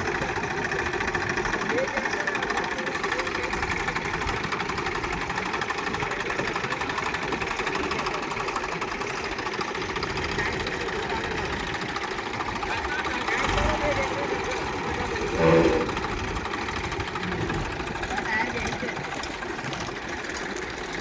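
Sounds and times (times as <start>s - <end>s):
diesel tractor engine clattering: 0.0s - 21.0s.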